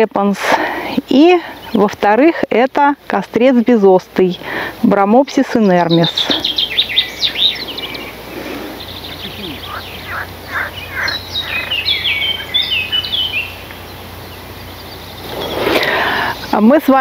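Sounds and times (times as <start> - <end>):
small songbirds singing: 0.9 - 2.9, 4.0 - 17.0.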